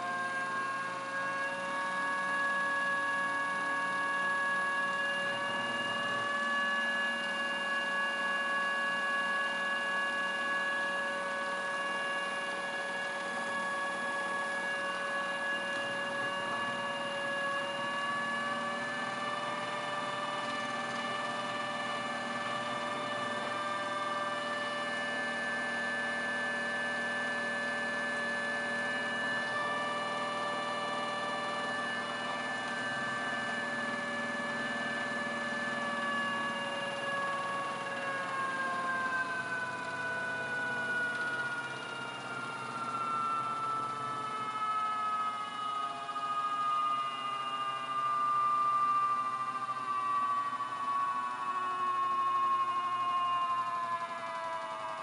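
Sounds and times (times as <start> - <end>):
small electric motor whine: 0.0 - 55.0.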